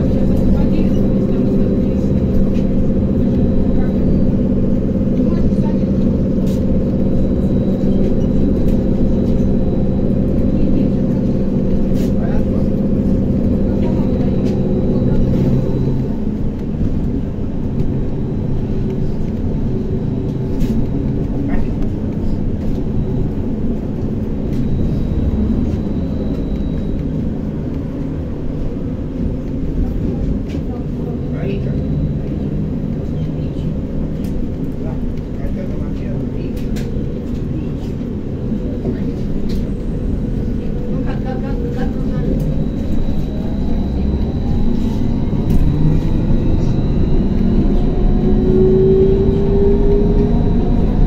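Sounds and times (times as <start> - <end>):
bus road rumble: 0.0 - 51.0.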